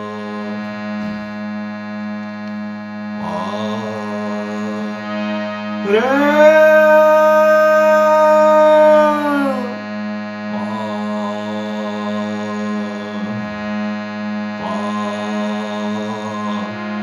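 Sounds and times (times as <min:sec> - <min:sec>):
harmonium reed drone: 0:00.0 - 0:17.0
person singing gliding note: 0:00.0 - 0:17.0.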